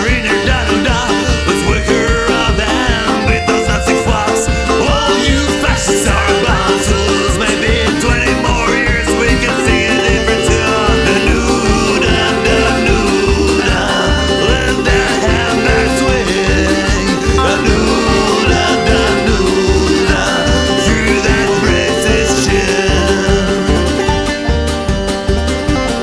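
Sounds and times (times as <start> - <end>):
folk punk song with banjo: 0.0 - 26.0.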